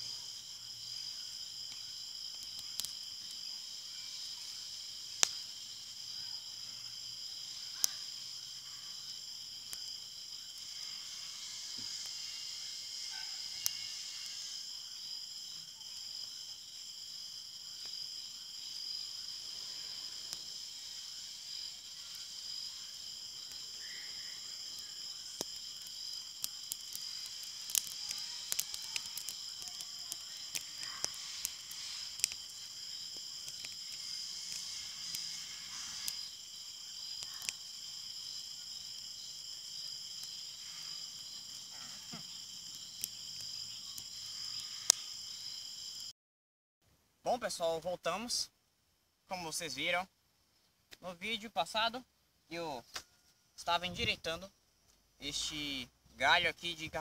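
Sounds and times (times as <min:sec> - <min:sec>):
fire crackling: 0:00.0 - 0:46.1
insects droning: 0:00.0 - 0:46.1, 0:47.2 - 0:57.0.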